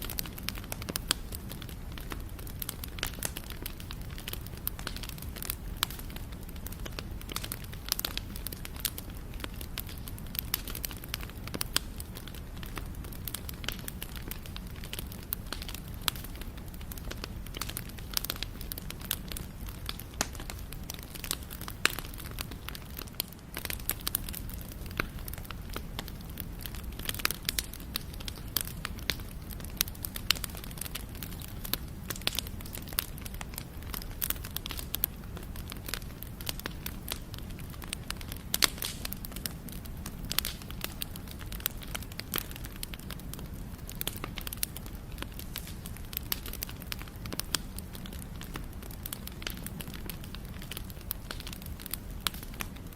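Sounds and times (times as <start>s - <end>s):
burning wood popping and crackling: 0.0s - 52.9s
campfire flames rumbling: 0.0s - 52.9s.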